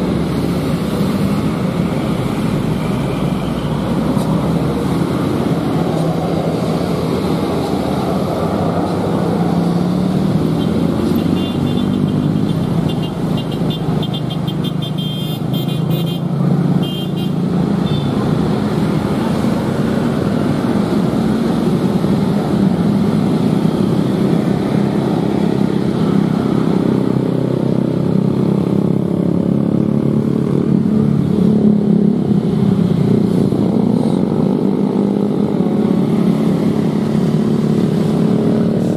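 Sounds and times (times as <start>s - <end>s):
motorcycle and car engines: 0.0s - 38.9s.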